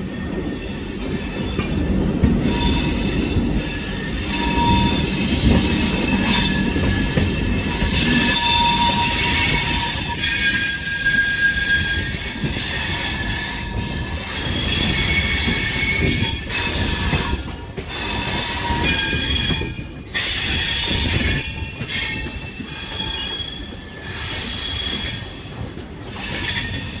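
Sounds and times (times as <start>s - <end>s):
train running gear rumble: 0.0s - 27.0s
train wheels squealing on rails: 0.0s - 27.0s.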